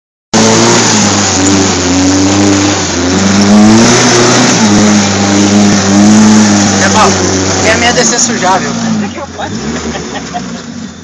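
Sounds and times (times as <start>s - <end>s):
car engine revving: 0.3s - 11.0s.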